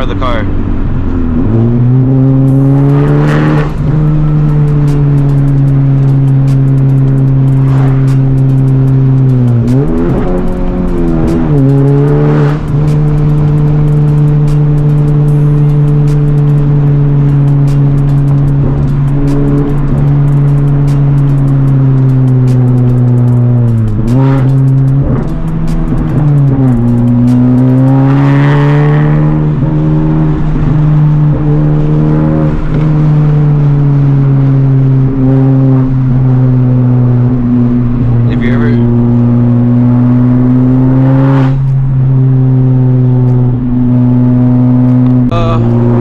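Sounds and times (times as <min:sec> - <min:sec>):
car engine droning: 0:00.0 - 0:46.0.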